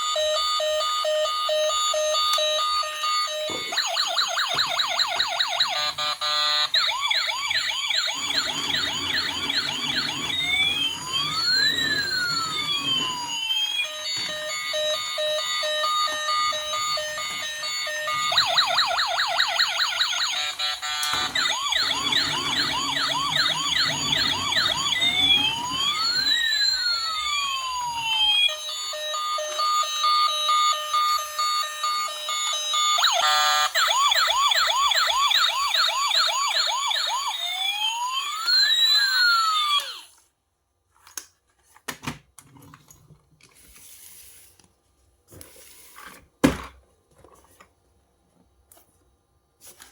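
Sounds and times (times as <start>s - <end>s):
toy electronic siren: 0.0s - 40.2s.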